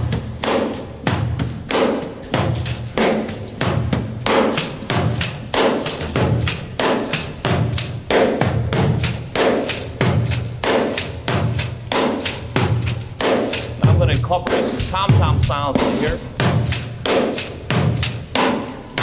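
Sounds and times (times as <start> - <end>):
tambourine played like hand drum: 0.0 - 19.0.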